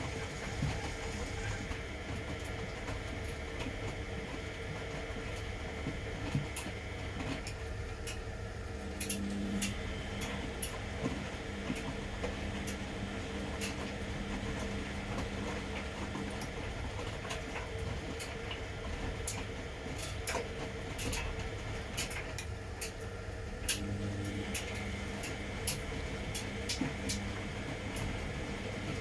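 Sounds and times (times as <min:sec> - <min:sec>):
washing machine drum motor hum: 0:00.0 - 0:29.0.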